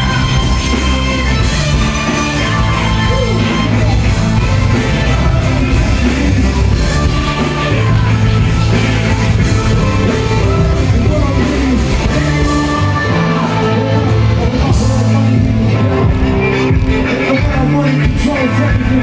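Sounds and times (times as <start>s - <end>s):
bass line: 0.0s - 19.0s
guitar: 0.0s - 19.0s
live rock-rap music through pa: 0.0s - 19.0s
person singing: 0.0s - 19.0s.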